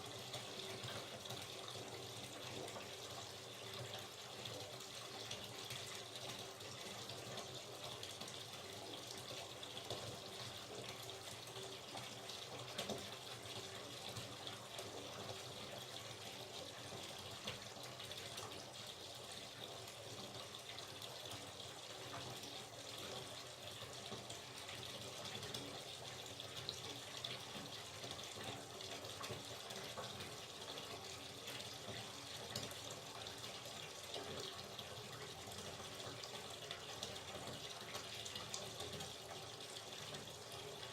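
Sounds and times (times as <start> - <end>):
tap water pouring into bathtub: 0.0 - 40.9.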